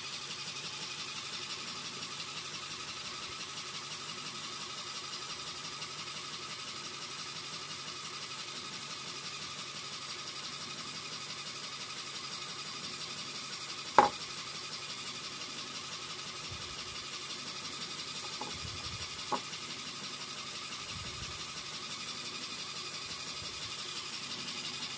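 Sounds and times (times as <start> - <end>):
toy motor running with rattle: 0.0 - 24.9.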